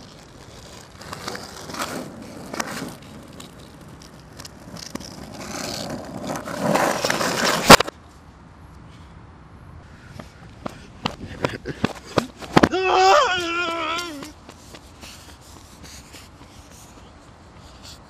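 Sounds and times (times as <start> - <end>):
skateboard clacking: 0.0 - 7.9, 10.5 - 17.4
skateboard wheels rolling on asphalt: 0.0 - 8.6, 9.7 - 18.0.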